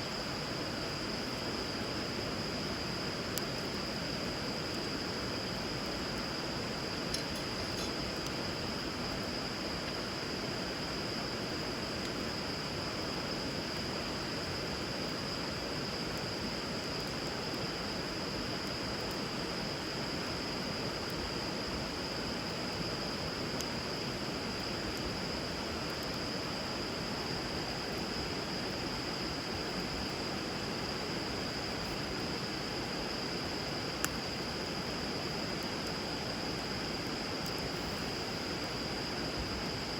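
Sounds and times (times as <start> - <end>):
fire crackling: 0.2 - 39.9.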